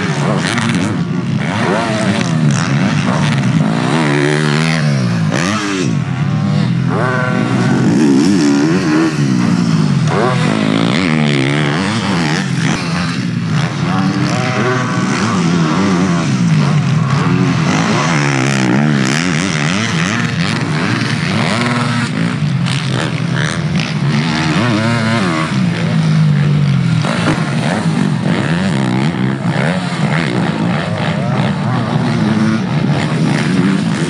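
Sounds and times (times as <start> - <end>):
motocross bikes revving: 0.0 - 34.0.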